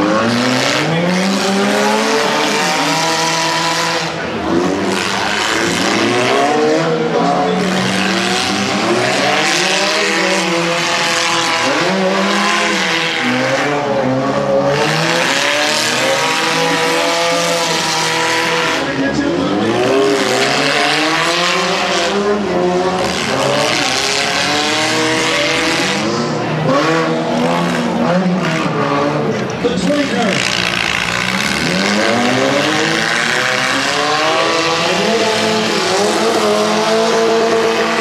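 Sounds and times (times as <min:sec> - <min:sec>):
car engines revving: 0:00.0 - 0:38.0.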